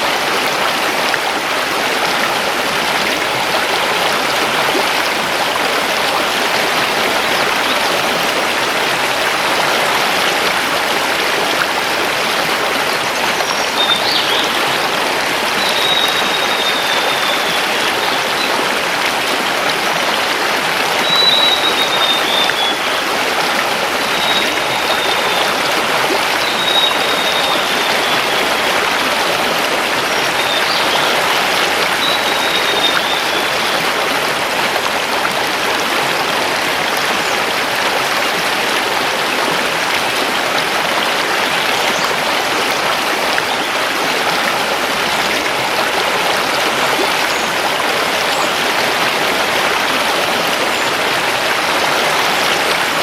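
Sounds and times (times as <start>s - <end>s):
river rushing over stones: 0.0s - 53.0s.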